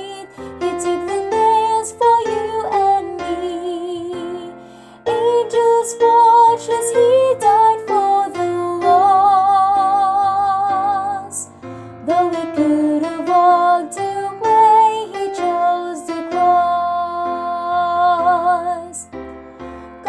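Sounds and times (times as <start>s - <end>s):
woman singing soprano: 0.0s - 19.0s
piano accompaniment: 0.0s - 20.0s.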